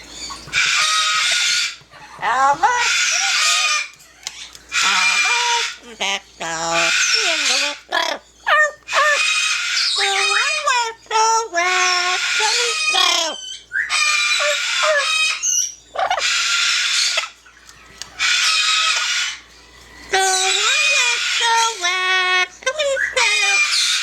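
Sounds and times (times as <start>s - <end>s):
parrot screeching squawks: 0.3s - 10.9s, 11.6s - 17.4s, 18.1s - 19.4s, 20.2s - 24.0s
parrot speech-like calls: 0.6s - 3.9s, 4.7s - 17.3s, 18.2s - 19.4s, 20.1s - 24.0s.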